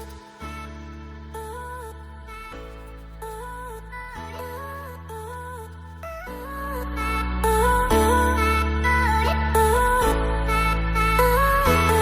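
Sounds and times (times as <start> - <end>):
gentle melody over low bass: 0.0 - 12.0.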